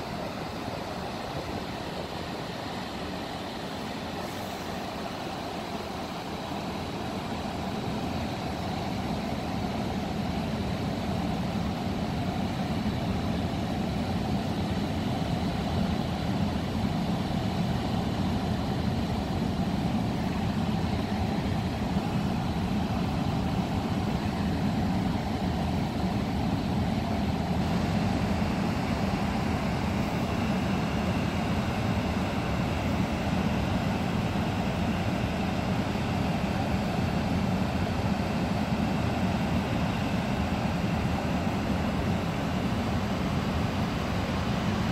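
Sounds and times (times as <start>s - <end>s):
water rushing over dam spillway: 0.0s - 44.9s.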